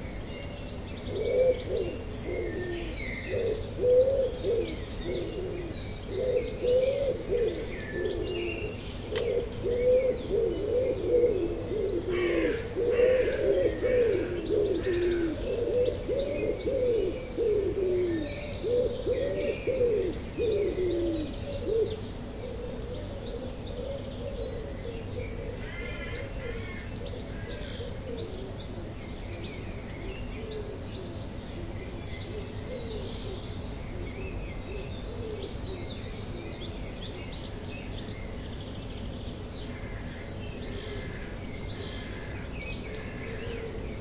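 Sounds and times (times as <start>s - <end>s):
low repeated bird calls: 0.0s - 44.0s
songbird chirps and trills: 0.0s - 44.0s.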